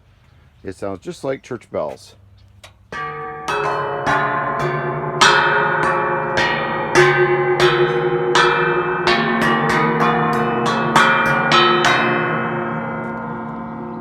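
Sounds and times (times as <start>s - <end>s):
metal stakes clanging like bells: 2.7s - 14.0s.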